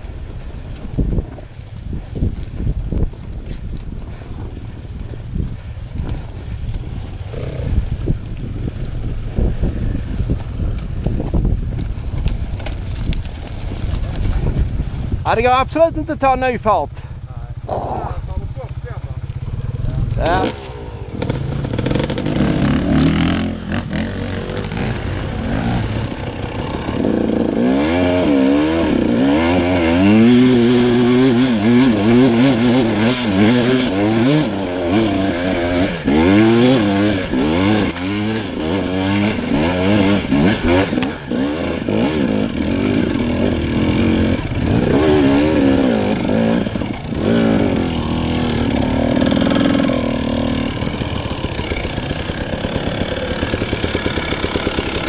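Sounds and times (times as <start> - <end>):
dirt bike engine revving: 5.5 - 14.6, 15.3 - 55.0.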